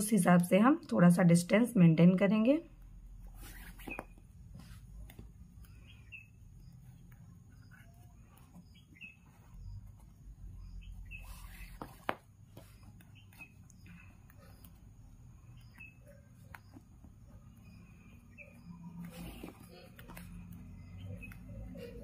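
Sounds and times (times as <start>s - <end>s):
cord rustling through knots: 2.8s - 22.0s
small birds chirping: 3.3s - 22.0s.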